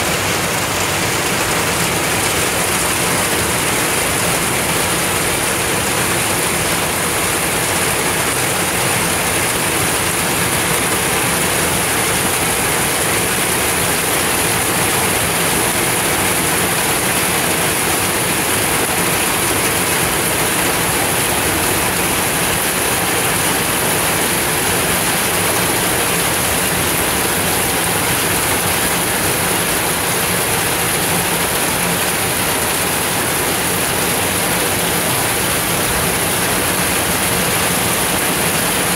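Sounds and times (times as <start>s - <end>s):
heavy rain on pavement: 0.0s - 38.9s.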